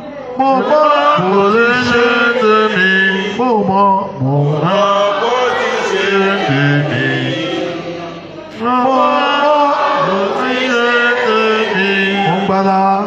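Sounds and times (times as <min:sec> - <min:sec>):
man chanting into a microphone: 0:00.4 - 0:07.6, 0:08.6 - 0:13.0.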